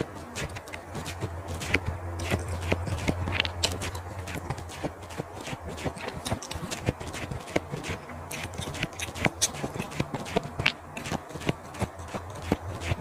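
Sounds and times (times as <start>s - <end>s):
close chewing with mouth clicks: 0.0s - 13.0s
low hum: 0.0s - 13.0s.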